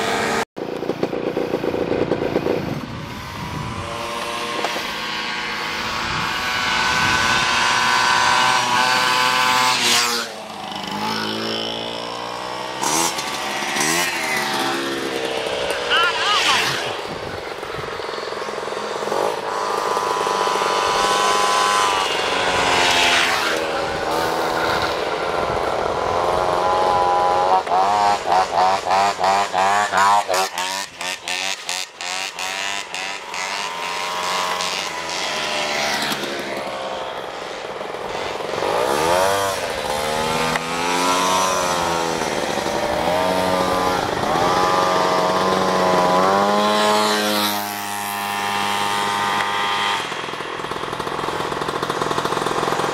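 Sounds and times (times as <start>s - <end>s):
moped engines revving past: 0.0s - 52.9s.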